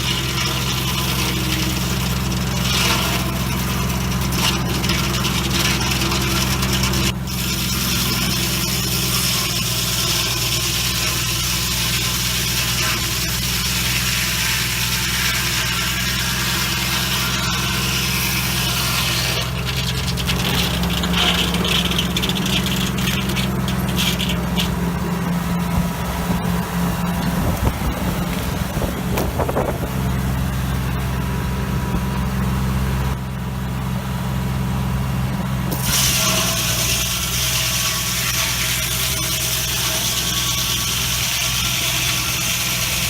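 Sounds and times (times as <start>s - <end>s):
engine running steadily: 0.0s - 43.0s.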